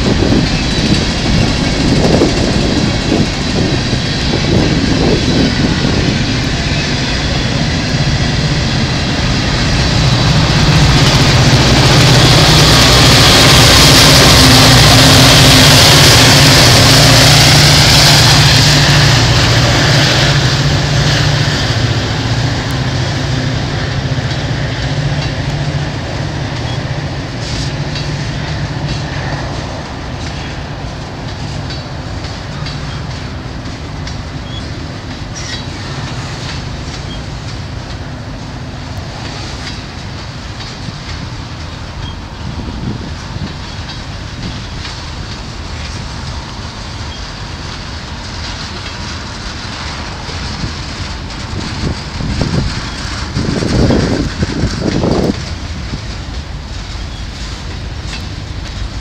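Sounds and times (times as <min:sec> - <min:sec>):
diesel locomotive engine: 0:00.0 - 0:59.0
freight cars rumbling: 0:00.0 - 0:59.0
wheels clacking on rail joints: 0:00.0 - 0:59.0.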